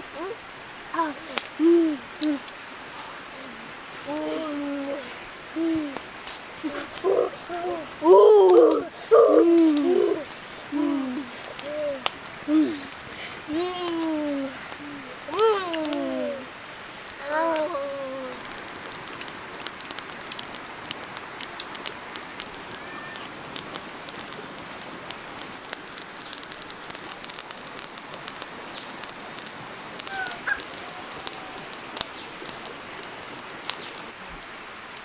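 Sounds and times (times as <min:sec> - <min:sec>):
steady hiss with crackles: 0:00.0 - 0:35.0.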